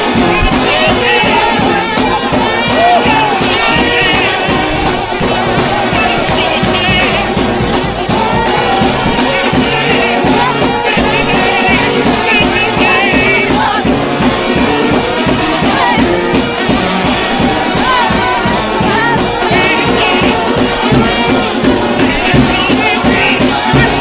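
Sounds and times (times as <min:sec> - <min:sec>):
steady drum beat: 0:00.0 - 0:24.0
trombone choir playing gospel: 0:00.0 - 0:24.0.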